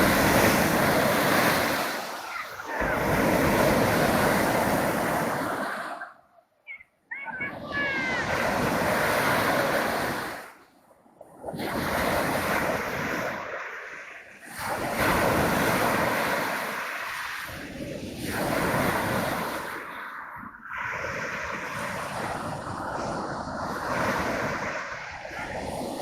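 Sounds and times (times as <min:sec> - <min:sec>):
sea waves washing ashore: 0:00.0 - 0:26.0.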